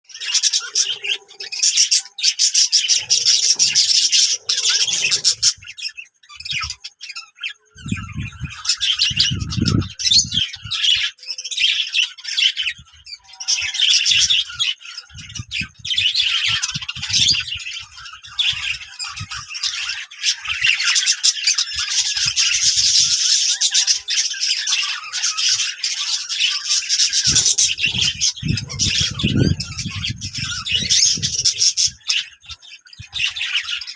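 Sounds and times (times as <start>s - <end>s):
parrots chattering and squawking: 0.0s - 33.9s.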